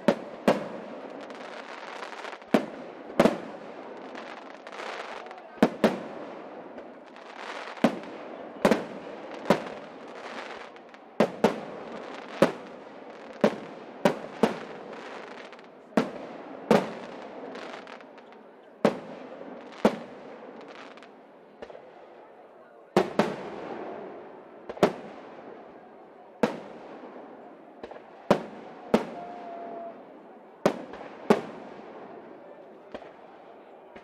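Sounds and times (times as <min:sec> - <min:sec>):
crackling rumbling fireworks wash: 0:00.0 - 0:34.0.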